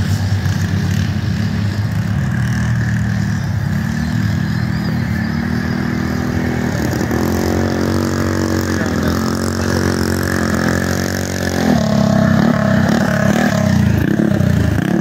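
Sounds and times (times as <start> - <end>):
mini bike engine running: 0.0 - 15.0
second engine: 0.0 - 15.0.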